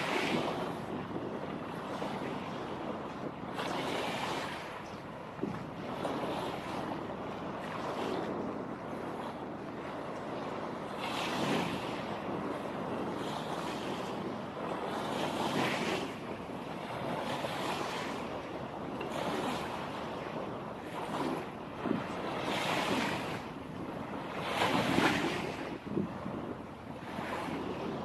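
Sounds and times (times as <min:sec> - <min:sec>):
sea waves breaking on shore: 0:00.0 - 0:28.0
wind on microphone: 0:00.0 - 0:28.0.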